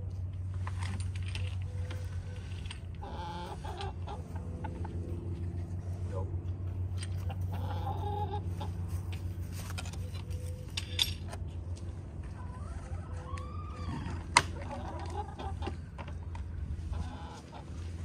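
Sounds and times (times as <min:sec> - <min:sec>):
steady low hum: 0:00.0 - 0:18.0
hens clucking: 0:01.6 - 0:10.7, 0:12.2 - 0:18.0.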